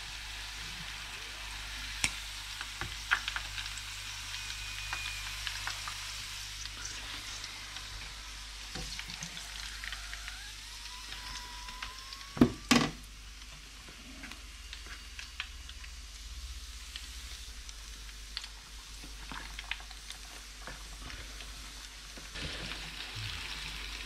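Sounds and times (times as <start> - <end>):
deep-frying sizzle and crackles: 0.0 - 24.0.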